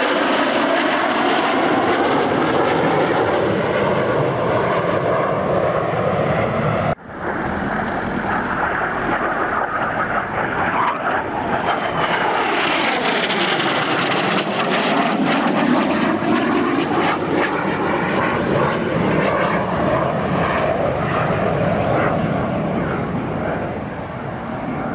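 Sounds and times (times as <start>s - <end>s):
jet engine roar: 0.0s - 24.9s
jet passing tone sweep: 2.0s - 23.8s.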